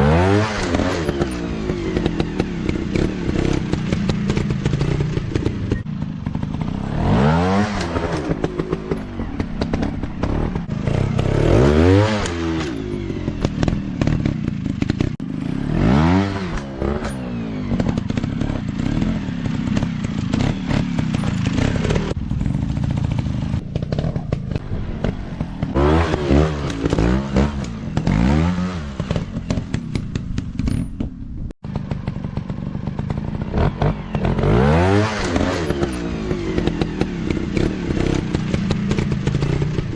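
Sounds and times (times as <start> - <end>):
dirt bike engines revving: 0.0 - 30.9, 31.7 - 39.9.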